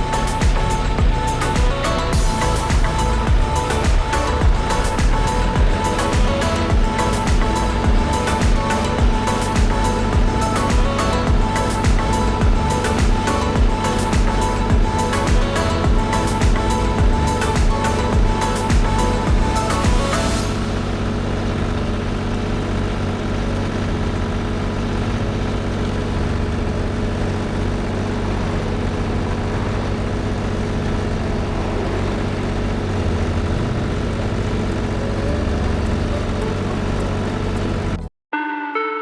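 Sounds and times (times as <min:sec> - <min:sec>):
tractor engine rumbling: 0:00.0 - 0:38.1.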